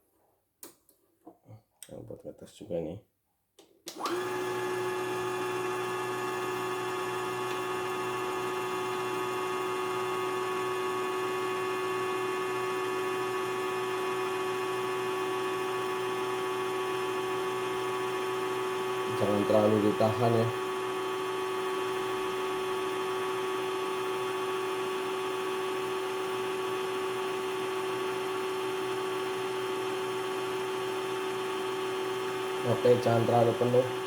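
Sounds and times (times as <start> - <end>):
bobbin winder motor whine: 3.9 - 34.0.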